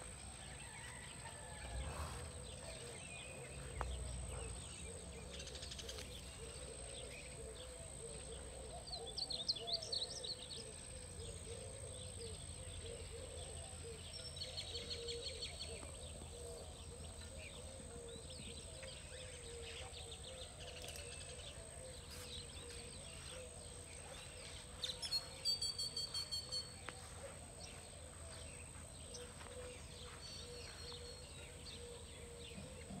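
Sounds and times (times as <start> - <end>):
birds calling: 0.0 - 33.0.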